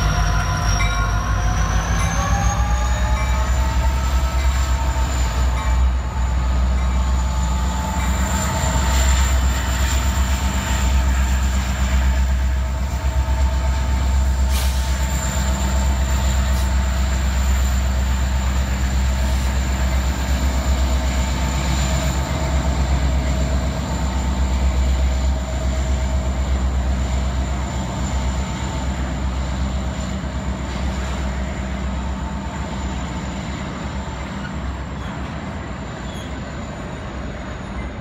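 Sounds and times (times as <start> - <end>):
diesel locomotive engines rumbling: 0.0 - 38.0.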